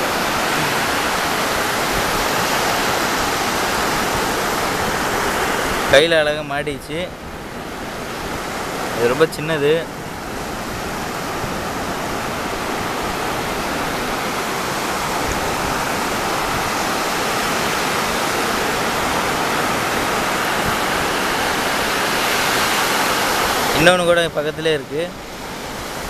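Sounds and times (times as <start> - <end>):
surf washing up beach: 0.0 - 26.0.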